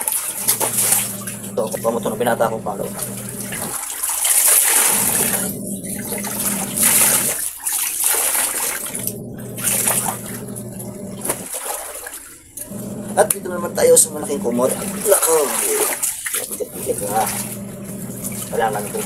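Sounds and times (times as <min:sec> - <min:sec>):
water splashing into a basin: 0:00.0 - 0:19.0.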